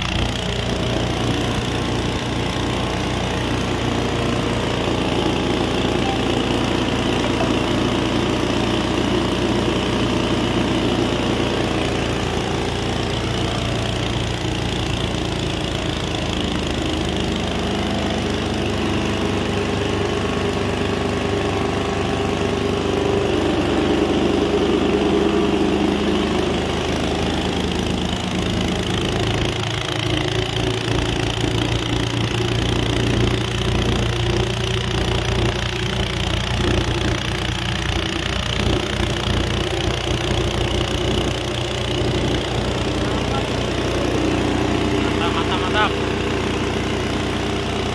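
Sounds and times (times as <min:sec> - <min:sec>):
grinding mill droning: 0:00.0 - 0:47.9.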